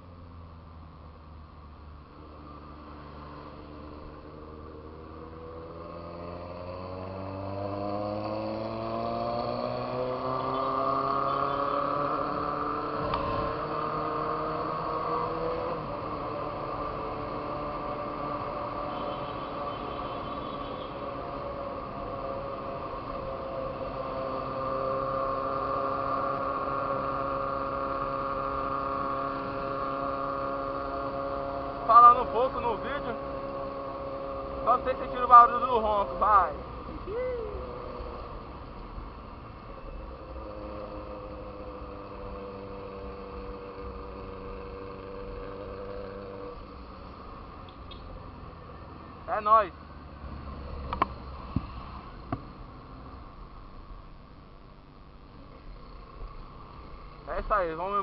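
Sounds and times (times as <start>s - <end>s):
road and wind noise: 0.0s - 58.0s
motorcycle engine accelerating: 2.2s - 54.0s.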